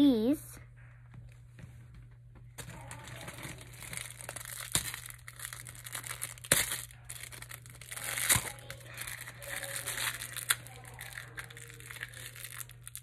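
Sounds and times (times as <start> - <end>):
rustling and crinkling: 1.1 - 13.0.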